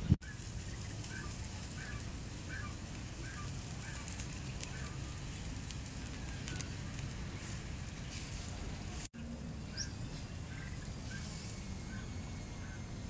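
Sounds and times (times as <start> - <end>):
fire crackles: 0.0 - 13.0
wood fire rumbling: 0.0 - 13.0.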